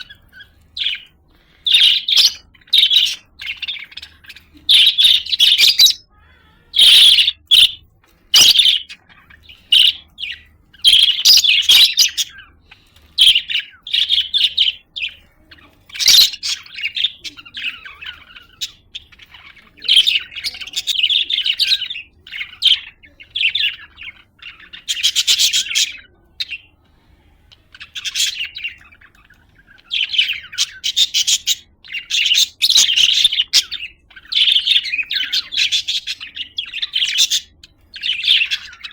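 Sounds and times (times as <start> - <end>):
budgerigar chirping and warbling: 0.0 - 26.7, 27.5 - 38.9.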